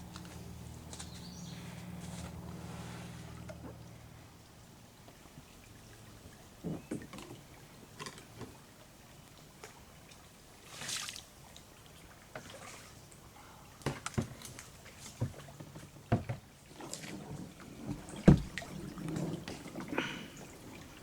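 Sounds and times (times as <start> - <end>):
paddle splashing water: 0.2 - 21.0.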